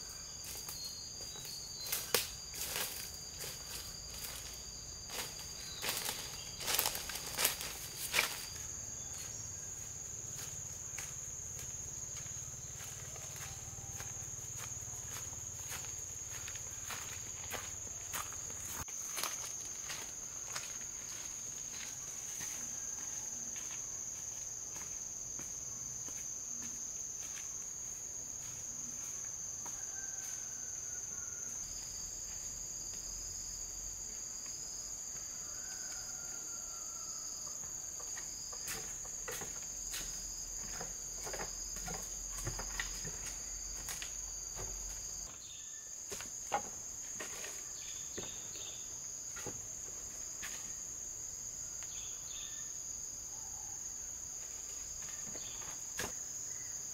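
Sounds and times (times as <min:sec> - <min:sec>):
high-pitched insect drone: 0:00.0 - 0:53.8
lower insect tone: 0:00.0 - 0:56.9
footsteps on bamboo walkway: 0:00.4 - 0:33.2, 0:37.6 - 0:45.4, 0:46.1 - 0:50.8, 0:54.4 - 0:56.6.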